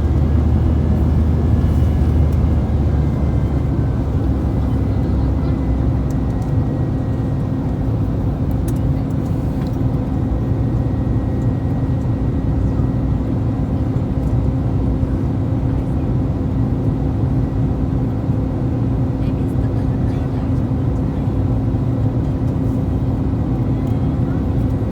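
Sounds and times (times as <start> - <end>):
constant cabin hum: 0.0 - 24.9
engine and airflow rumble: 0.0 - 24.9.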